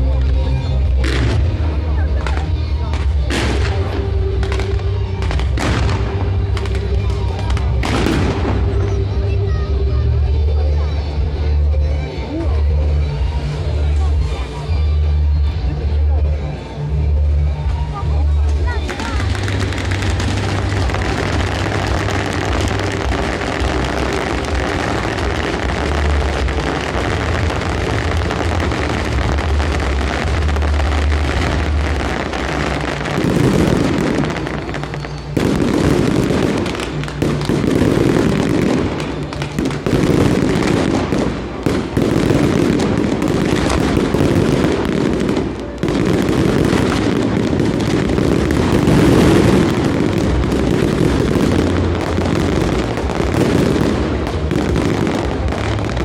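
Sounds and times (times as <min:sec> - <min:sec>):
fireworks booms and crackling: 0:00.0 - 0:14.6, 0:16.0 - 0:56.0.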